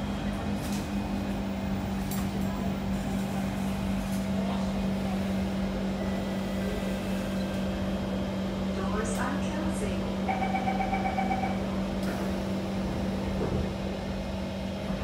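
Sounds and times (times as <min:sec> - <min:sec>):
train running low hum: 0:00.0 - 0:15.0.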